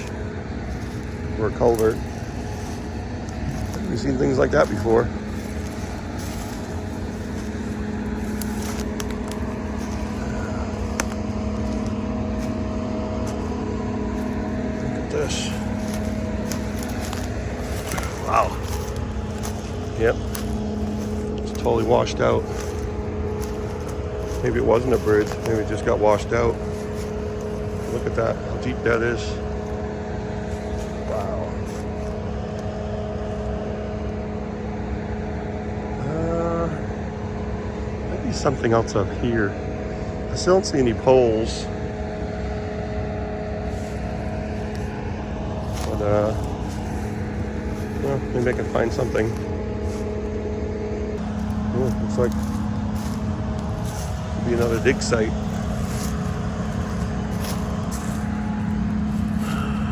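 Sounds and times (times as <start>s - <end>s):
engine hum: 0.0s - 59.9s
low mechanical drone: 0.0s - 59.9s.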